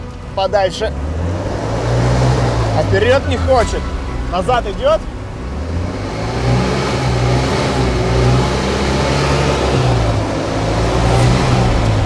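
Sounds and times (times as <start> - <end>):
van engine revving: 0.0 - 12.0.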